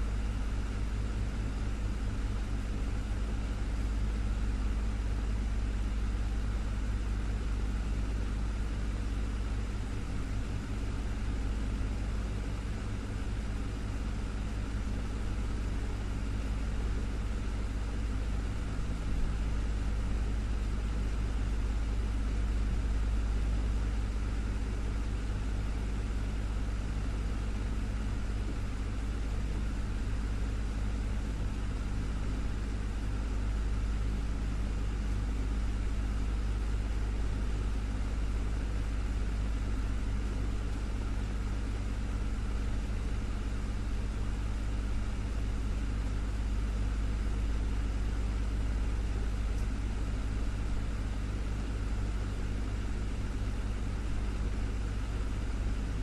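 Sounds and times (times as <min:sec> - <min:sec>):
desktop fan running: 0:00.0 - 0:56.0.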